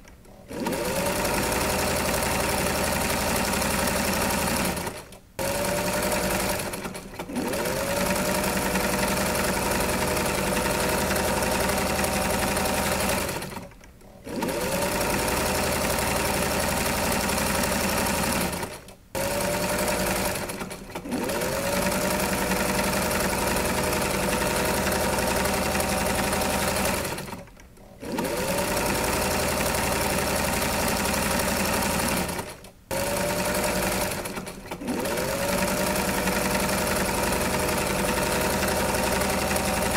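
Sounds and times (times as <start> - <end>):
electric sewing machine running: 0.2 - 39.9.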